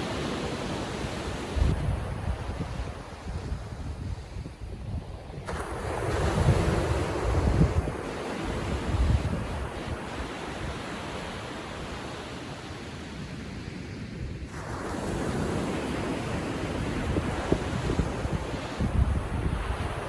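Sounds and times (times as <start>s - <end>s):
small waves washing up beach: 0.0s - 20.0s
wind rumble on microphone: 0.2s - 12.2s, 14.0s - 20.0s.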